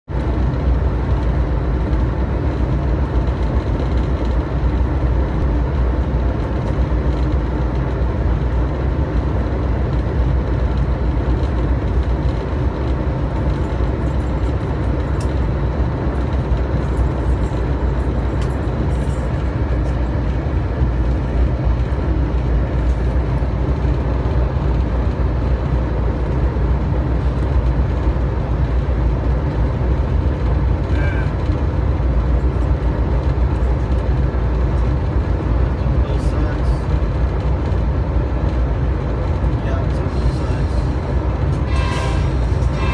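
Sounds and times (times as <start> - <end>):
train locomotive rumble: 0.1 - 42.9.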